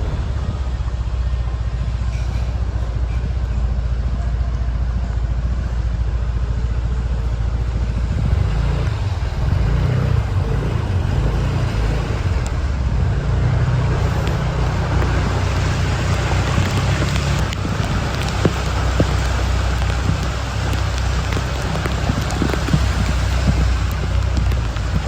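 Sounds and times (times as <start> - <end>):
heavy rain: 0.0 - 25.0
vehicle engine running: 0.0 - 25.0.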